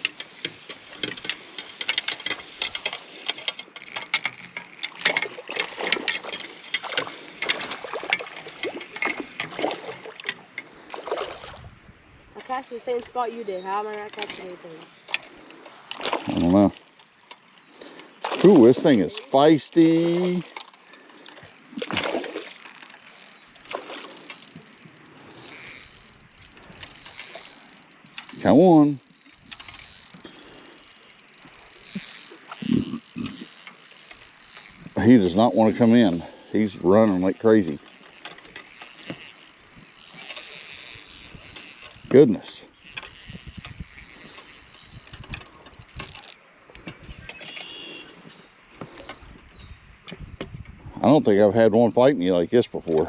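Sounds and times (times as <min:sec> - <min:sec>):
fishing reel clicking and whirring: 0:00.0 - 0:11.6, 0:12.4 - 0:48.0, 0:48.8 - 0:49.4.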